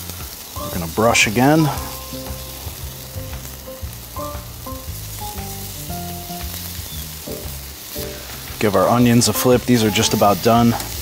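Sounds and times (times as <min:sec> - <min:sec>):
meat sizzling on a grill: 0:00.0 - 0:11.0
quiet background music: 0:00.0 - 0:11.0.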